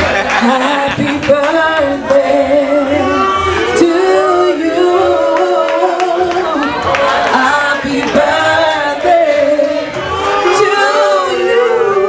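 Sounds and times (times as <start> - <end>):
voices singing along: 0.2 - 12.0
woman singing into microphone: 0.3 - 12.0.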